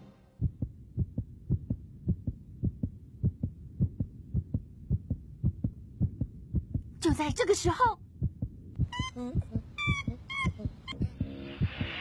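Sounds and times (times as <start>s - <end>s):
heartbeat thumping: 0.4s - 7.2s, 7.8s - 12.0s.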